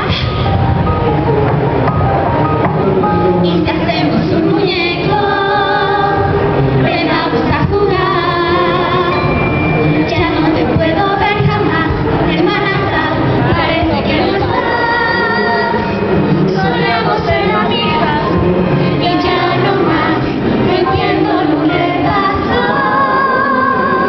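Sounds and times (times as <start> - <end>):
backing music: 0.0 - 24.0
woman singing into a microphone: 3.4 - 9.3, 10.0 - 24.0.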